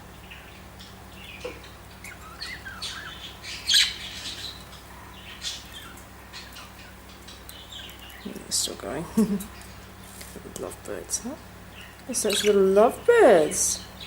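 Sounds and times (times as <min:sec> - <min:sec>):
budgerigars chirping: 0:00.1 - 0:14.0.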